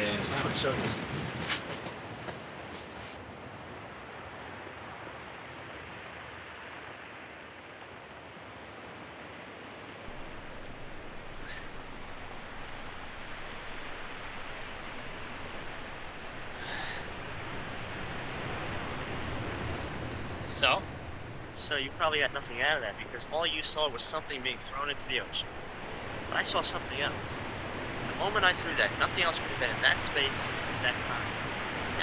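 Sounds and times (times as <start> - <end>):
ocean surf: 0.0 - 32.0
wind: 0.0 - 32.0.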